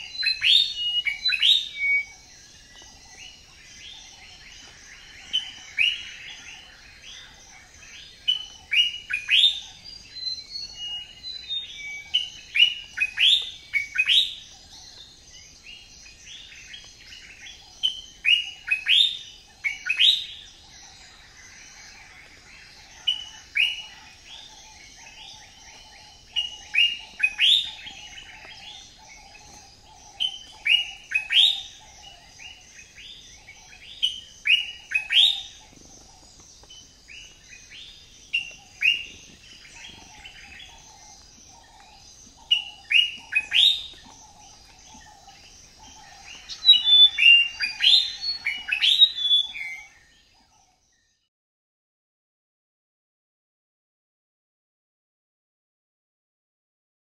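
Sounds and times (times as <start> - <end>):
birds chirping: 0.0 - 51.3.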